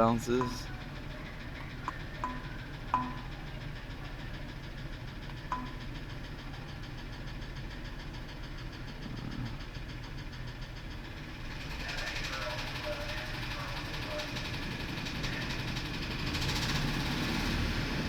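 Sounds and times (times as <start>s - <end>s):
truck engine idling with ticking knock: 0.0s - 18.0s.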